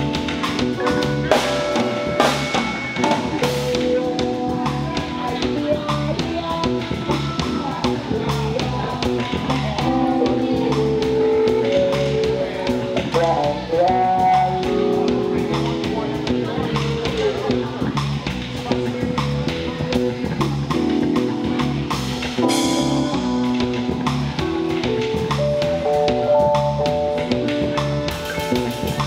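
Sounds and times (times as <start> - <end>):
drum kit beat: 0.0 - 29.0
electric bass: 0.0 - 29.0
electric guitar: 0.0 - 29.0
keyboard: 0.0 - 29.0
person singing: 0.8 - 29.0.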